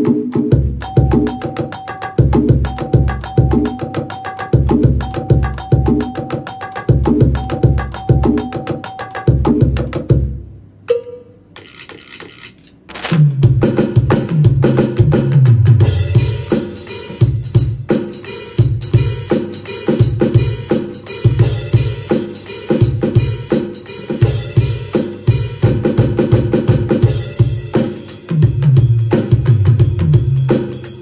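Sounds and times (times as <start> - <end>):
drum kit beat: 0.0 - 11.6, 13.2 - 31.0.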